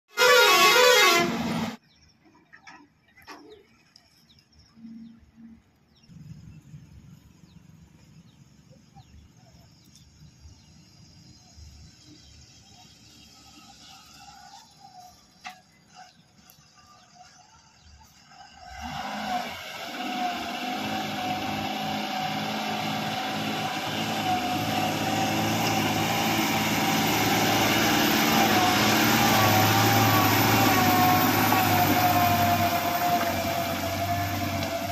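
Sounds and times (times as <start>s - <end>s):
truck diesel engine: 0.1s - 34.9s.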